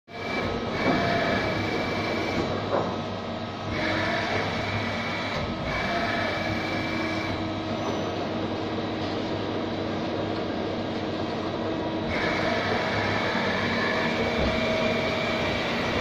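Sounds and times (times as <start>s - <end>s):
high machine whine: 0.1s - 16.0s
machine mechanical hum: 0.1s - 16.0s.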